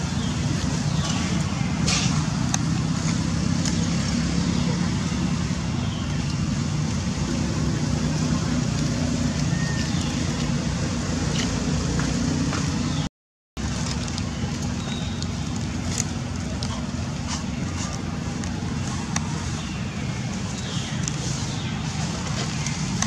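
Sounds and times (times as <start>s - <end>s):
outdoor noise: 0.0s - 23.0s.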